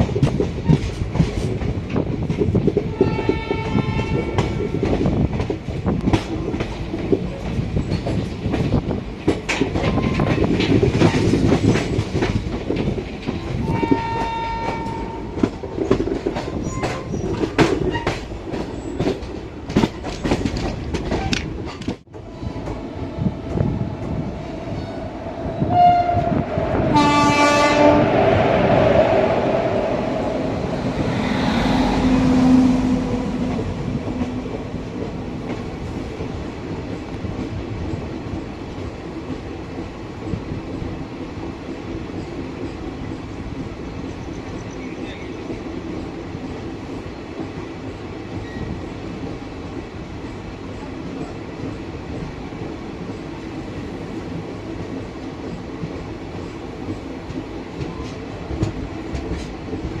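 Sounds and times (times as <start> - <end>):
train wheels rumbling on rails: 0.0 - 60.0.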